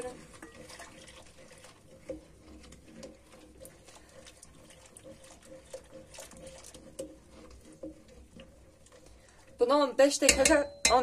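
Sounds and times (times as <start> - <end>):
liquid swishing: 0.0 - 10.7
whisk clicking against pot: 0.0 - 11.0.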